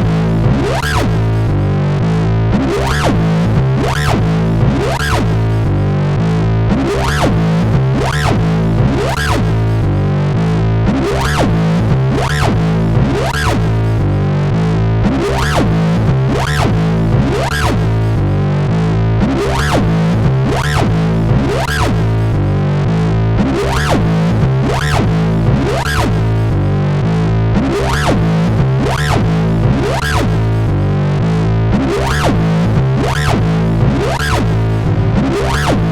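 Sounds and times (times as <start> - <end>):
distorted synthesizer bass riff: 0.0 - 35.9.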